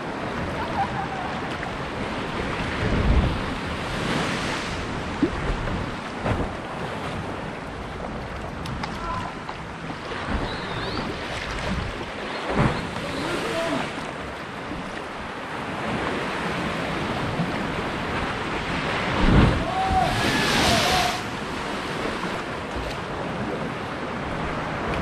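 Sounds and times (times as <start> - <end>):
ocean waves and surf: 0.0 - 25.0
wind buffeting microphone: 0.0 - 25.0.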